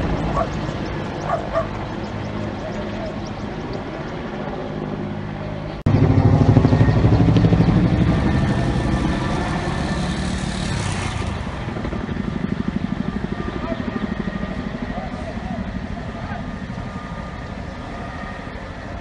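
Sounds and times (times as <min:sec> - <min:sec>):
engine running with fast pulsing: 0:00.0 - 0:19.0.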